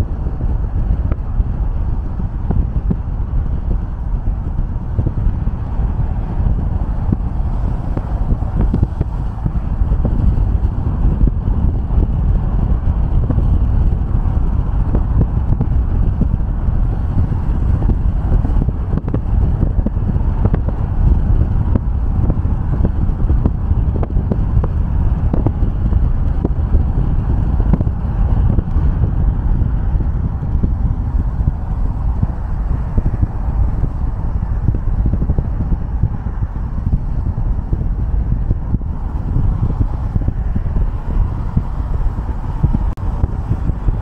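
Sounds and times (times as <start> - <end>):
road and tyre rumble: 0.0 - 44.0.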